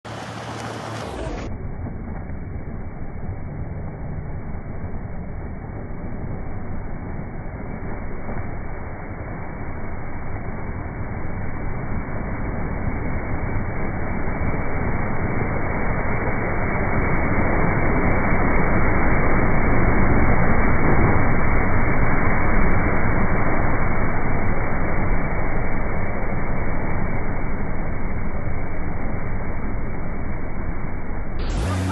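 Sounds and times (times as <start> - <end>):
motorboat passing: 0.0 - 31.9.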